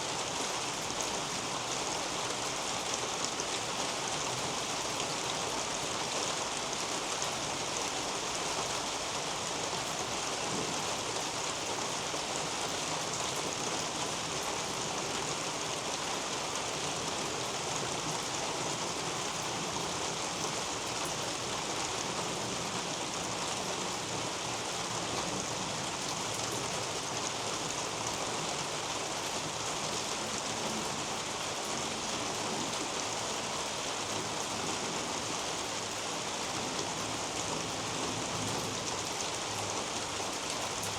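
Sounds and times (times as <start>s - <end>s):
rain on leaves and roof: 0.0s - 40.9s.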